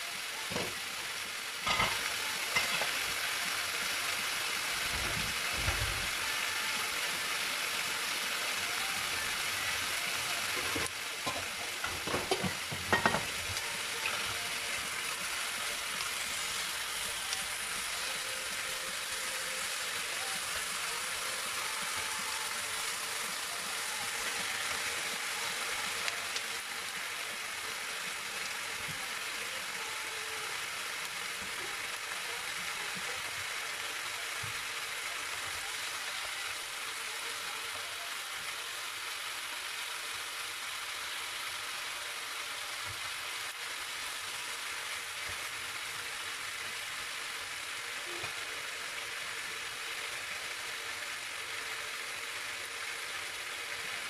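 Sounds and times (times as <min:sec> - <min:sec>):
chicken sizzling in a frying pan: 0:00.0 - 0:54.0.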